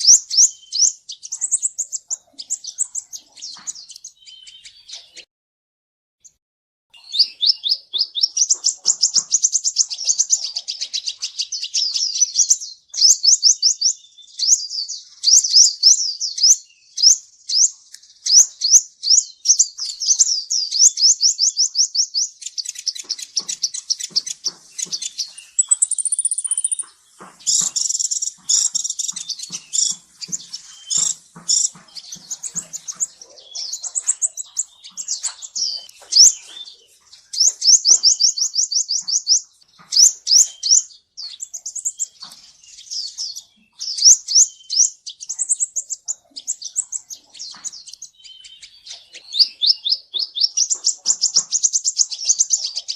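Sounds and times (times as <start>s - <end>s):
sunbird twittering: 0.0s - 5.3s, 7.0s - 52.9s.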